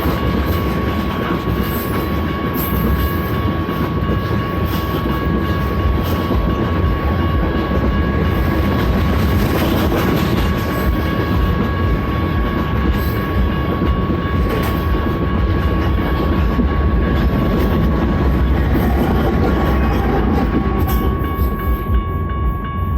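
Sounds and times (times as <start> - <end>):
train wheels rumbling on track: 0.0 - 22.9.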